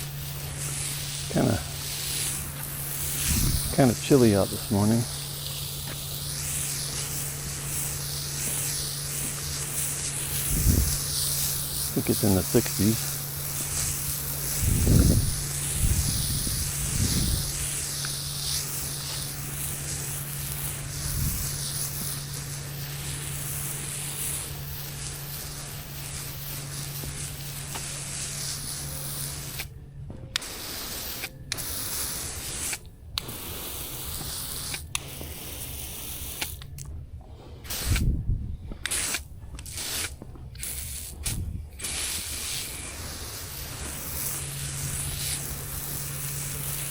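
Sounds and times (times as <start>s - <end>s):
sprayer hissing: 0.0s - 29.8s, 30.4s - 36.9s, 37.5s - 46.9s.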